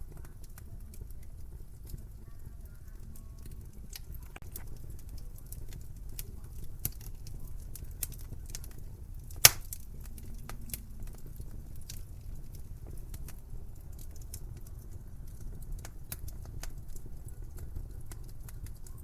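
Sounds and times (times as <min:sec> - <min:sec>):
low steady fire rumble: 0:00.0 - 0:19.0
wood fire crackling: 0:00.0 - 0:19.0.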